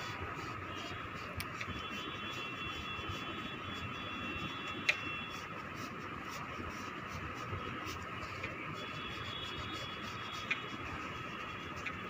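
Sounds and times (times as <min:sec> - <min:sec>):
faint high whine: 0:00.0 - 0:05.6, 0:07.4 - 0:12.0.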